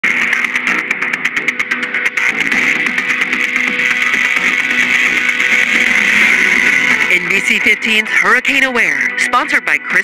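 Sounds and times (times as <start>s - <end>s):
strummed electric guitar music: 0.0s - 10.0s.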